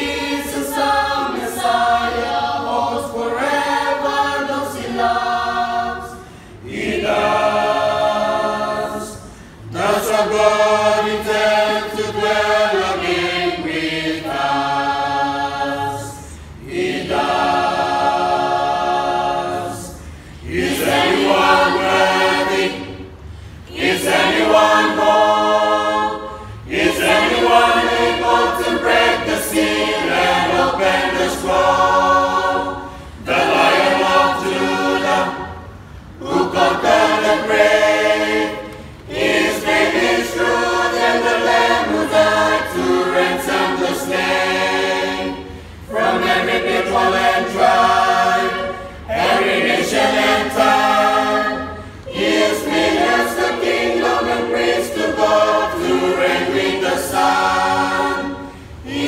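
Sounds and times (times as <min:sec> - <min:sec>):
mixed choir singing a cappella: 0:00.0 - 0:59.0.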